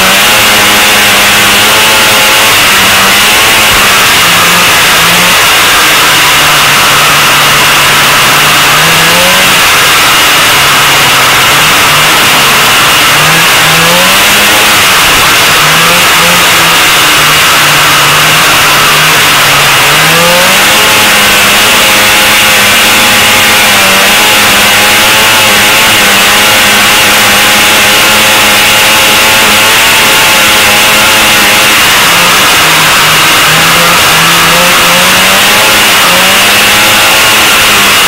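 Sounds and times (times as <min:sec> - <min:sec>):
racing snowmobile engine: 0:00.0 - 0:38.0.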